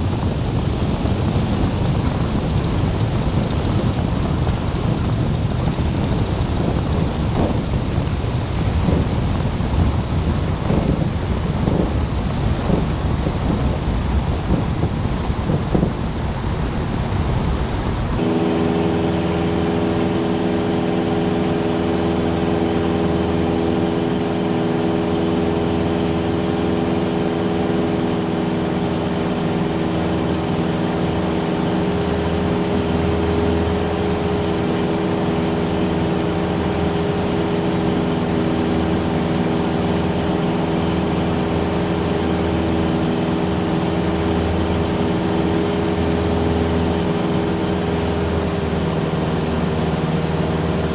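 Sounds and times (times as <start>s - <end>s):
propeller plane engine droning: 0.0s - 50.9s
wind-buffeted rush: 0.0s - 50.9s.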